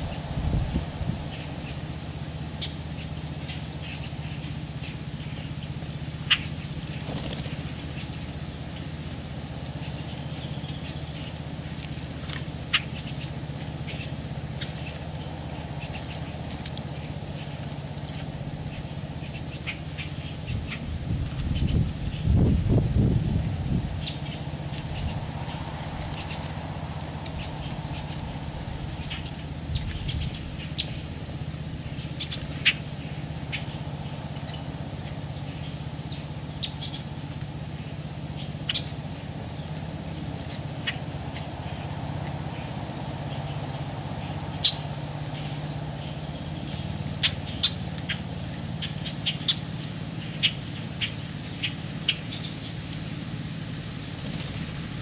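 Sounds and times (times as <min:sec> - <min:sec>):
birds chirping: 0:00.0 - 0:55.0
steady low hum: 0:00.0 - 0:55.0.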